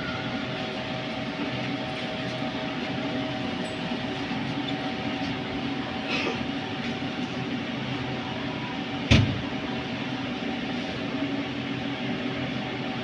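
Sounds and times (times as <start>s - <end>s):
metro car equipment humming: 0.0s - 13.0s.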